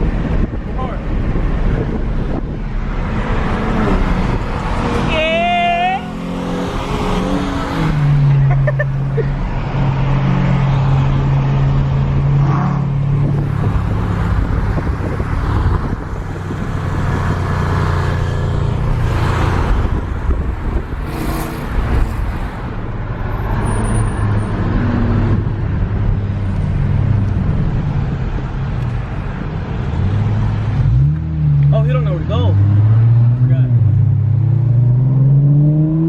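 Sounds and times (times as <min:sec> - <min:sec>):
road and traffic noise: 0:00.0 - 0:36.0.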